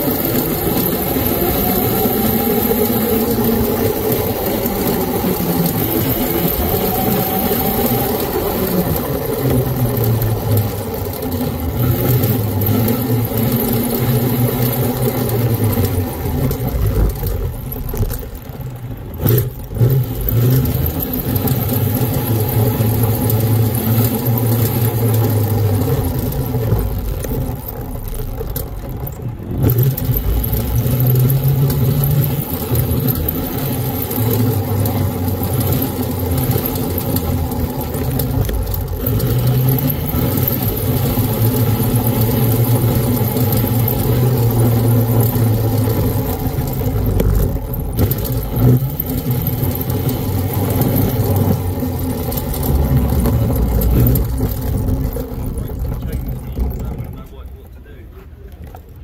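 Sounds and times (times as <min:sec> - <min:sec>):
electric motorbike drone: 0:00.0 - 0:57.2.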